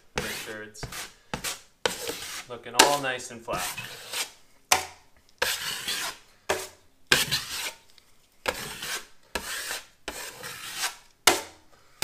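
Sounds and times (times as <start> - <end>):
drywall knife scraping wet compound: 0.0 - 4.4, 5.4 - 11.6.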